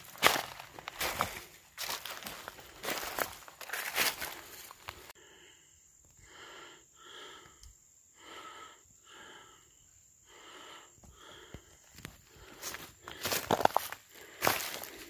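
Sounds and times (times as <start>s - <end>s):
person breathing hard: 0.1s - 15.0s.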